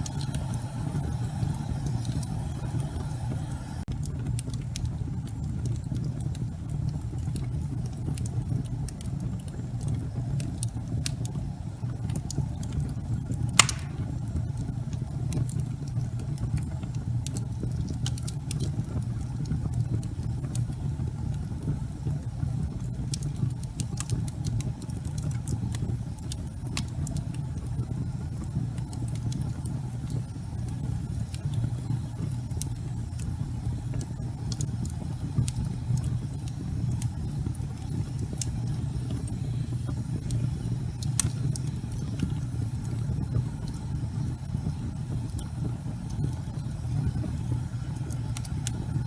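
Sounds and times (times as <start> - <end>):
fire crackling and popping: 0.0 - 49.0
fire rumbling: 0.0 - 49.0.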